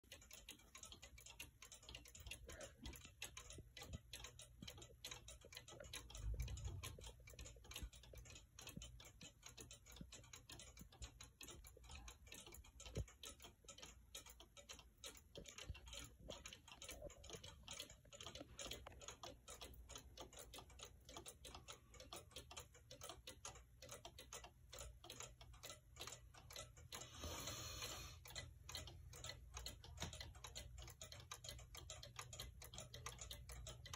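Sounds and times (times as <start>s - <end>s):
cuckoo clocks ticking: 0.0s - 33.9s.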